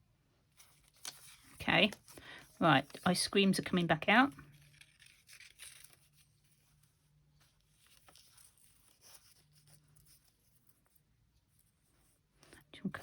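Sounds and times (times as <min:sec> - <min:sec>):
paper rustling: 0:00.5 - 0:12.2.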